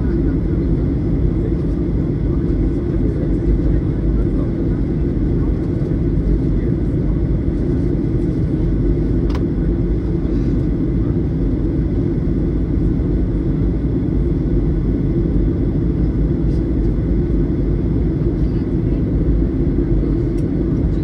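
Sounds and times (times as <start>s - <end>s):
jet engine roar and airflow: 0.0s - 21.0s.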